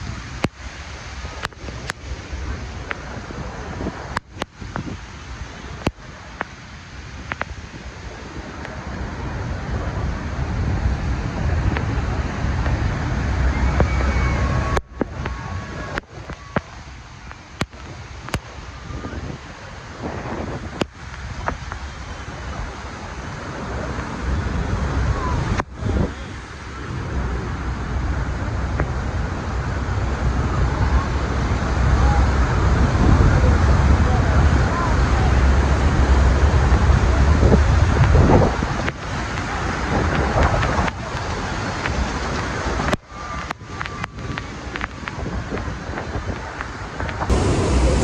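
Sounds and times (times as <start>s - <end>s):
heavy rush of falling water: 0.0s - 48.0s
wind buffeting microphone: 0.0s - 48.0s.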